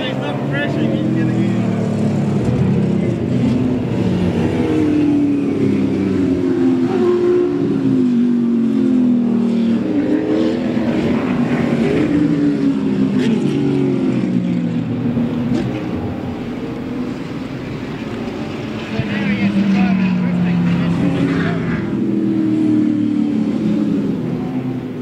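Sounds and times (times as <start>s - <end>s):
race cars passing: 0.0s - 25.0s.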